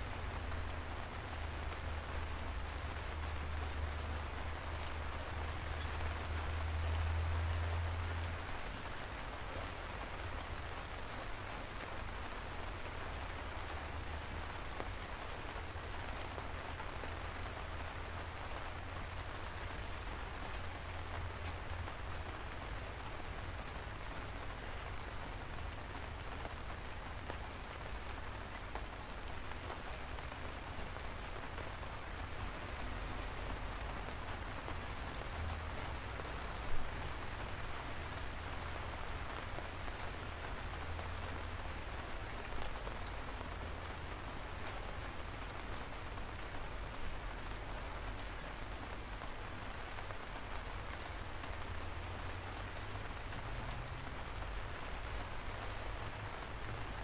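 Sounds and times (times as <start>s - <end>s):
raindrops ticking: 0.0s - 57.0s
steady rain hiss: 0.0s - 57.0s.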